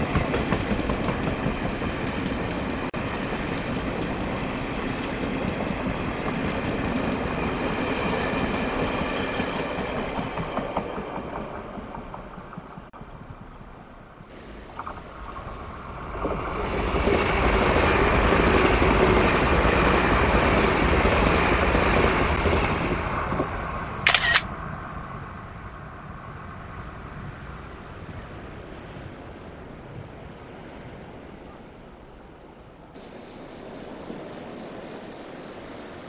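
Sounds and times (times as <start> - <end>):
train wheels rushing on rail: 0.0 - 24.0, 26.6 - 36.0.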